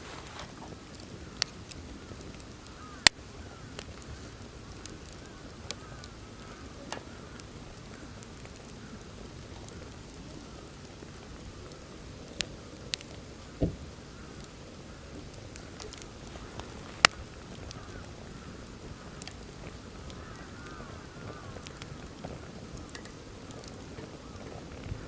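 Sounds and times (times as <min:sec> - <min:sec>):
campfire crackling and popping: 0:00.0 - 0:25.0
low rush of wind: 0:00.0 - 0:25.0.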